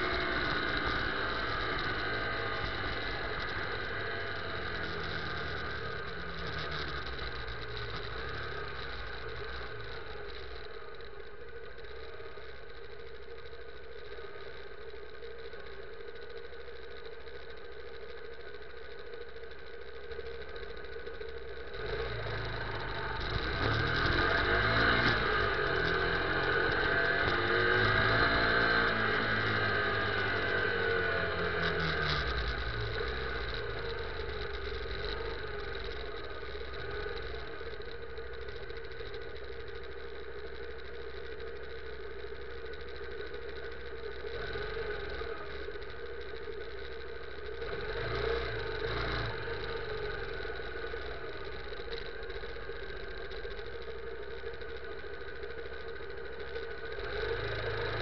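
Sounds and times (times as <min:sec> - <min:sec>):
motorcycle engine slowing and idling: 0:00.0 - 0:58.0.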